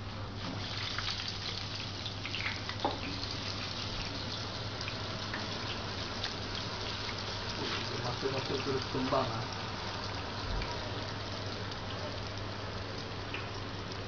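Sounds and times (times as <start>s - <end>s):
potato sizzling in deep fryer: 0.0s - 14.0s
steady low hum: 0.0s - 14.0s.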